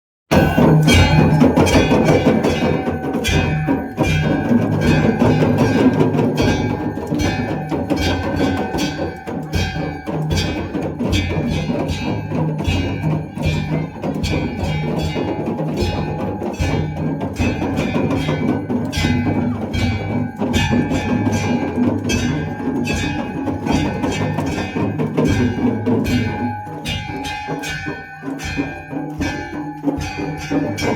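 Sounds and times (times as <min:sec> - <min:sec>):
drum beats: 0:00.3 - 0:30.9
temple bells clanging: 0:00.3 - 0:30.9.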